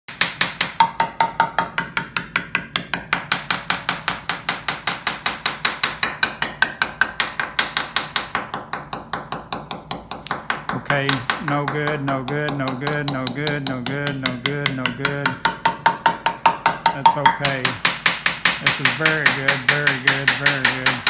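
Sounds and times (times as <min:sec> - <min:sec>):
rapid tapping on composite: 0:00.1 - 0:21.0.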